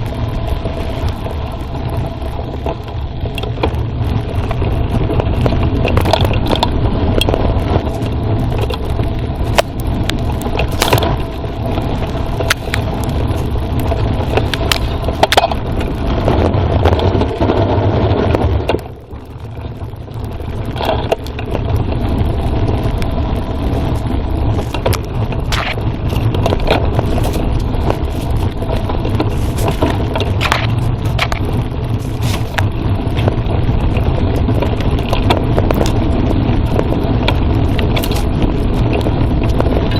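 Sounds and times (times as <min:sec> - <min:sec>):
bike rattles and knocks: 0:00.0 - 0:39.9
bike tyres rumbling on rough ground: 0:00.0 - 0:39.9.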